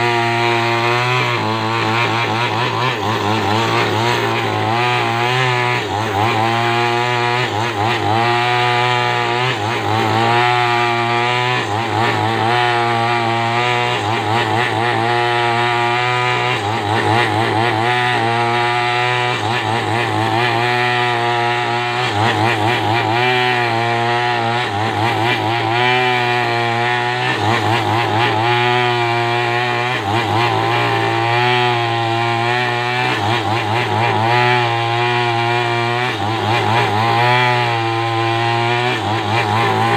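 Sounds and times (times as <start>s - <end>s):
chainsaw ripping through trunk: 0.0s - 39.9s.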